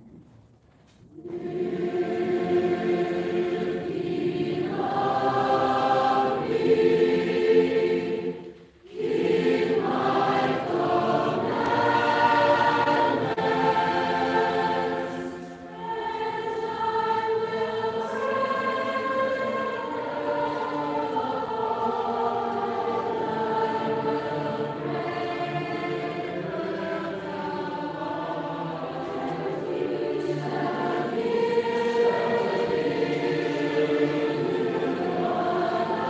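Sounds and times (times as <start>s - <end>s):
choir singing sustained chords: 1.1s - 36.0s.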